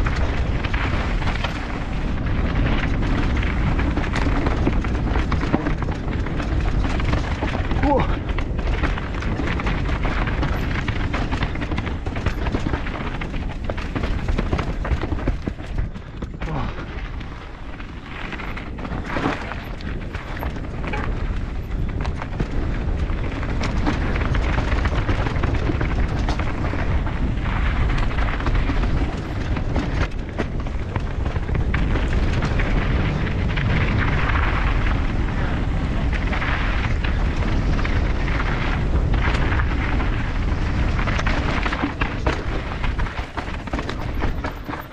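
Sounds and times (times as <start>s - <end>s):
bike tyres rumbling on dirt: 0.0s - 44.9s
rattling knocks over rocks: 0.0s - 44.9s
wind buffeting microphone: 0.0s - 44.9s.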